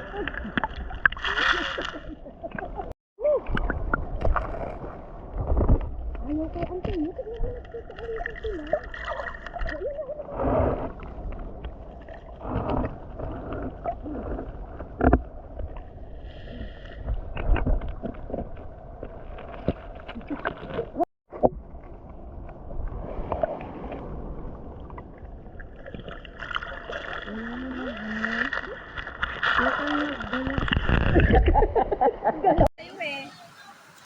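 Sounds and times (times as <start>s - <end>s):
stream water splashing: 0.0s - 31.6s, 32.8s - 34.0s.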